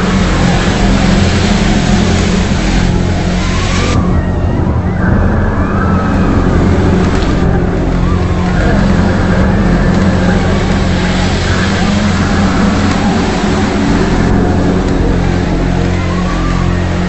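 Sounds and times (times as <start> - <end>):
low droning hum: 0.0 - 17.0
rushing noise: 0.0 - 17.0.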